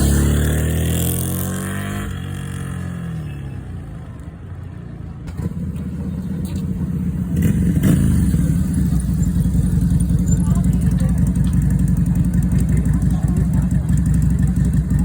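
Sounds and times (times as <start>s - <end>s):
motorcycle engine revving: 0.0s - 4.1s, 5.2s - 15.0s.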